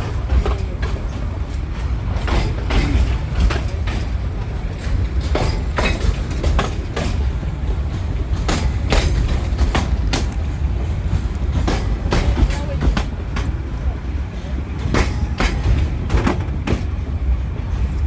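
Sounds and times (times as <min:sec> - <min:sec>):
train running rumble: 0:00.0 - 0:18.0
wheels clicking on rails: 0:00.0 - 0:18.0.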